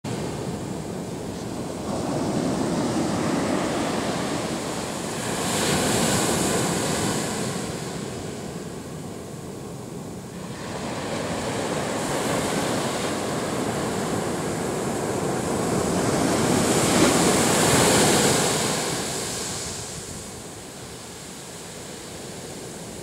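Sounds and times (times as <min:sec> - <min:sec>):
ocean waves breaking on beach: 0:00.1 - 0:23.0.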